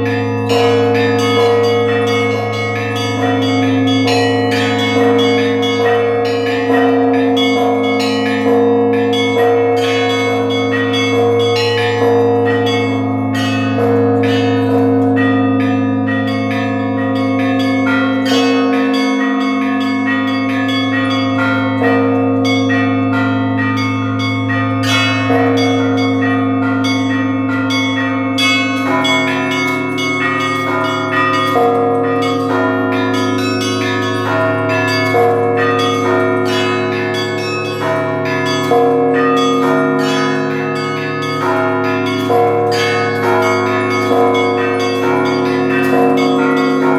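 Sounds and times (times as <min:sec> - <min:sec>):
deep bell tone: 0:00.0 - 0:46.9
hum of larger bells: 0:00.0 - 0:46.9
small bells rung rhythmically: 0:00.0 - 0:46.9.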